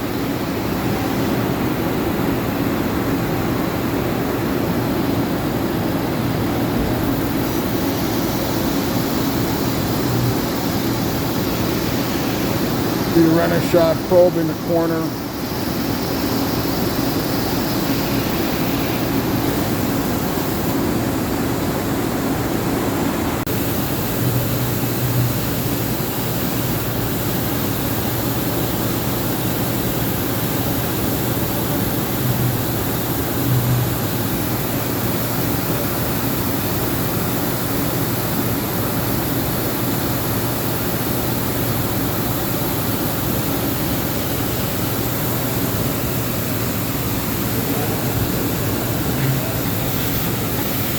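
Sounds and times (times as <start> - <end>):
machine running with low hum: 0.0 - 50.9.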